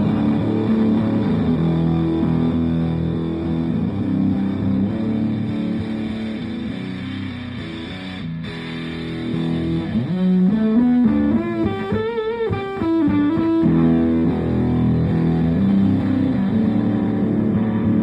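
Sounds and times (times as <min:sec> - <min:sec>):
fuzzed electric guitar: 0:00.0 - 0:18.0.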